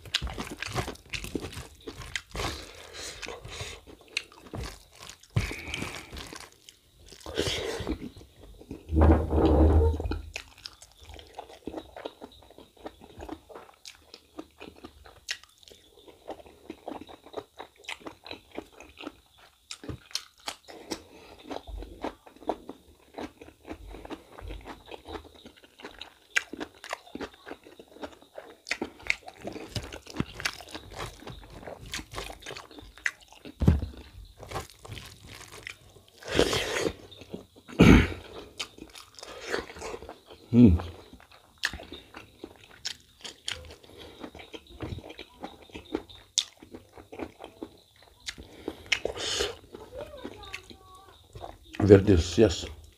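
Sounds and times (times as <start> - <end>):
man chewing food: 0.0 - 52.9.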